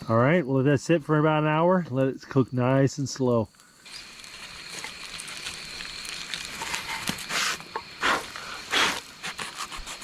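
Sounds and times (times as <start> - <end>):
campfire crackling and hissing: 0.0 - 10.0.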